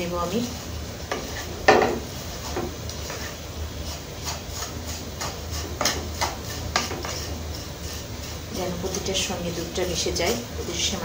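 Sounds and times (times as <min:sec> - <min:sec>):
spatula scraping frying pan: 0:00.2 - 0:11.0.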